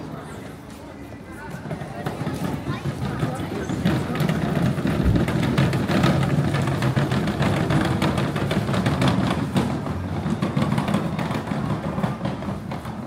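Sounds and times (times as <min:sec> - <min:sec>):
plastic wheels rattling on paving: 0:00.0 - 0:13.0.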